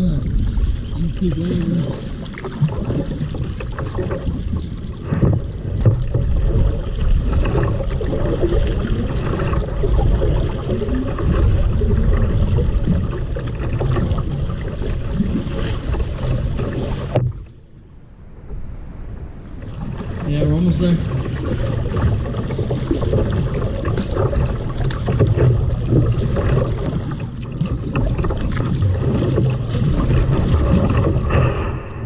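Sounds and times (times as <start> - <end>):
water noise: 0.0 - 32.0
wind rumbling on microphone: 0.0 - 32.0.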